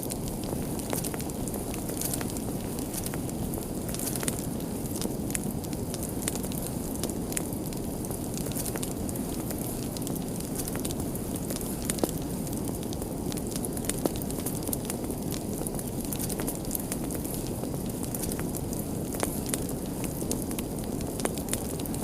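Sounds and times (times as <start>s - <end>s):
fire crackling: 0.0s - 22.0s
fire pops and snaps: 0.0s - 22.0s.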